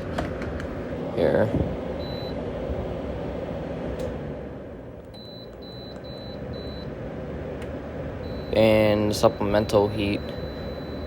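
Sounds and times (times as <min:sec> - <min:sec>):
air conditioner running: 0:00.0 - 0:11.0.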